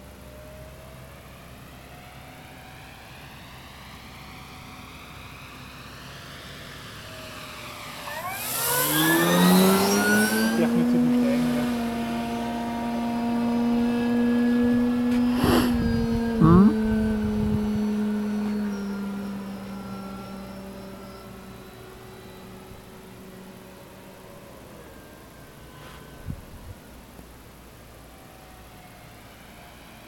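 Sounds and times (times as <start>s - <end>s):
model plane propeller drone: 0.0s - 30.0s.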